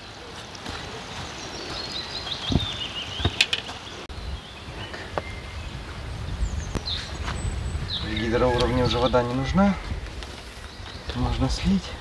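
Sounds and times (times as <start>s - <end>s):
bird singing: 0.0s - 12.0s.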